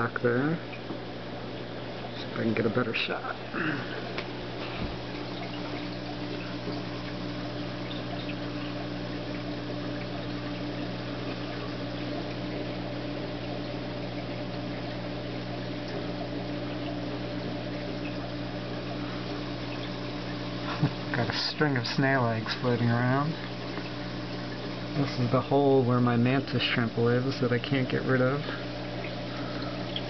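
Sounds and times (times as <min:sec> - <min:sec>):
aquarium pumps humming: 0:00.0 - 0:30.0
circulating water: 0:00.0 - 0:30.0.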